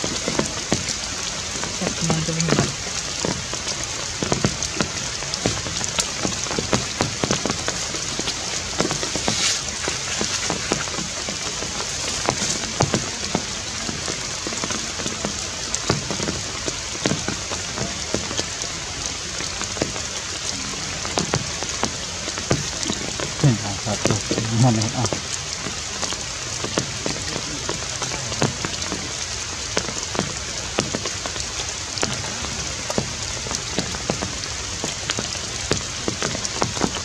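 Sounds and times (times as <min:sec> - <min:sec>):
water drops ticking: 0:00.0 - 0:18.6, 0:19.4 - 0:37.0
rain falling on trees: 0:00.0 - 0:37.0.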